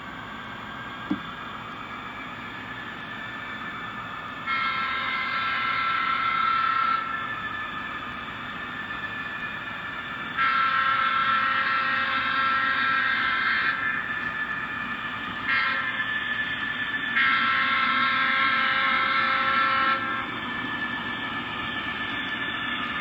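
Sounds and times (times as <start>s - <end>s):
model locomotive engine sound: 0.0s - 23.0s.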